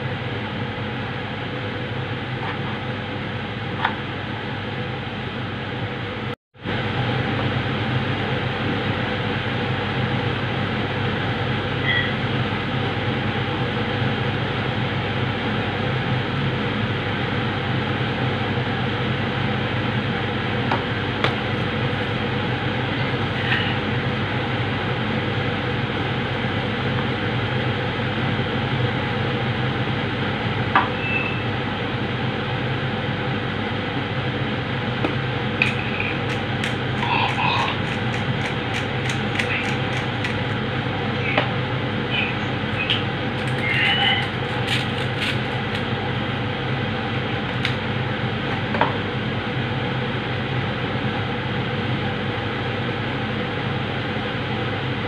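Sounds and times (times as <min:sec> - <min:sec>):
steady fan noise: 0:00.0 - 0:55.0.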